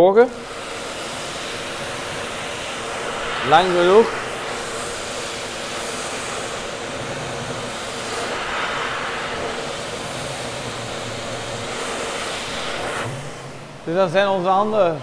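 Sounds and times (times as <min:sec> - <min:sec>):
electric hand dryer blowing: 0:00.0 - 0:15.0.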